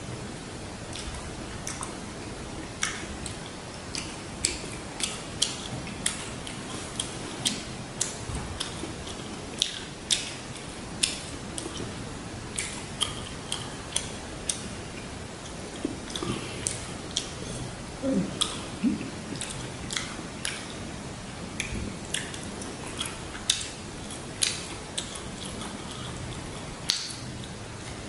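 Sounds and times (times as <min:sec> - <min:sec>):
chewing with wet crunches: 0:00.8 - 0:28.0.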